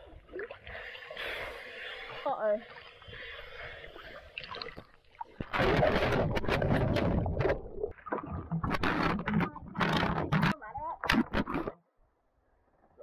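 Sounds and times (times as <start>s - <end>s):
underwater splashing and bubbling: 0.0s - 11.8s
water sloshing: 0.0s - 11.8s.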